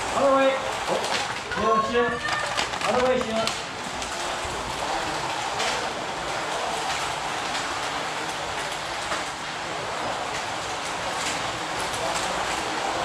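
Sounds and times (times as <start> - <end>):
slot cars whirring on track: 0.0 - 1.8, 2.6 - 13.0.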